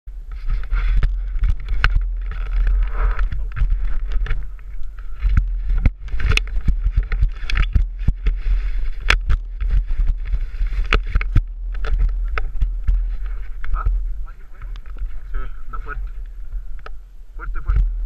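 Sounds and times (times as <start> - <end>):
wind rumble on microphone: 0.1 - 18.0
knocks and rattles: 0.4 - 15.2.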